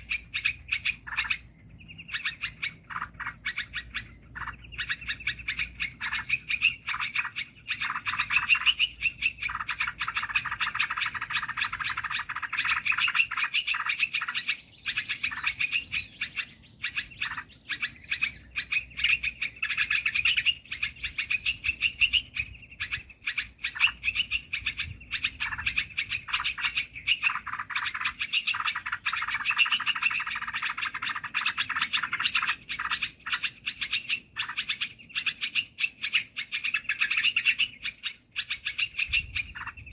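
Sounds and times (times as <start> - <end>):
birds scolding: 0.0 - 39.9
small birds chattering: 0.0 - 39.9.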